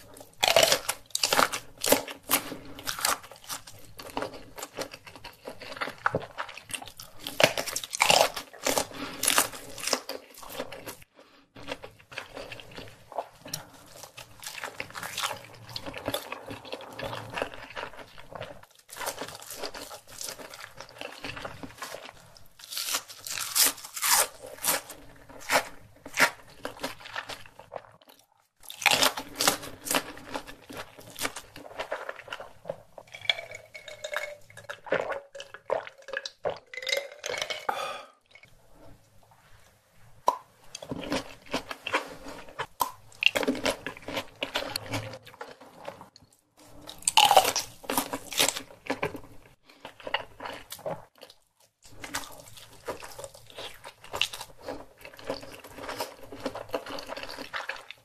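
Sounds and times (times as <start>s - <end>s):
man chewing crunchy food: 0.0s - 39.1s, 40.3s - 58.0s.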